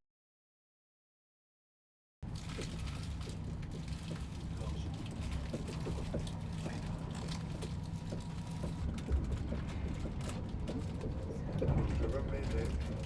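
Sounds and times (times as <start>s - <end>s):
train running rumble: 2.2s - 13.0s.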